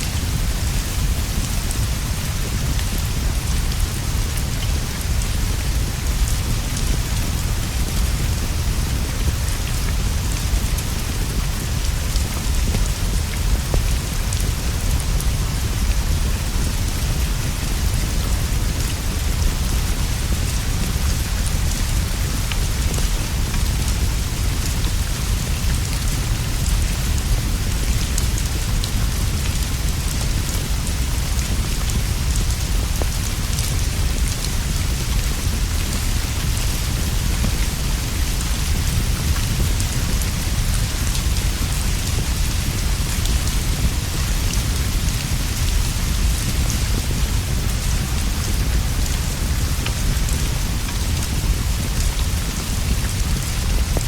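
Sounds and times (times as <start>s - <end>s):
rain on leaves and roof: 0.0s - 54.0s.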